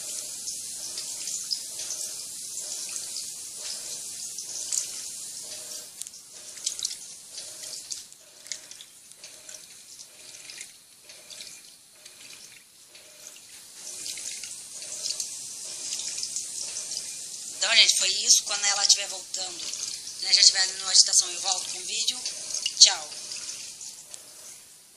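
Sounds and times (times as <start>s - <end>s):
water splashing in washing machine: 0.0s - 24.6s.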